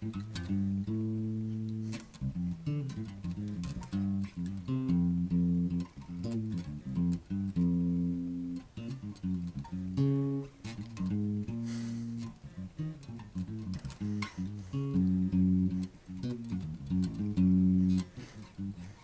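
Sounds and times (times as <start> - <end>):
electric bass plucked notes: 0.0 - 19.0.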